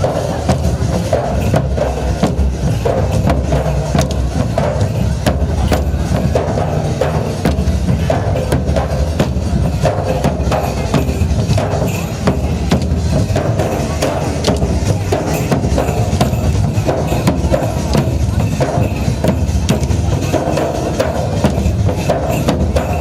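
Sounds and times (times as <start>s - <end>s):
big drums beating: 0.0s - 23.0s.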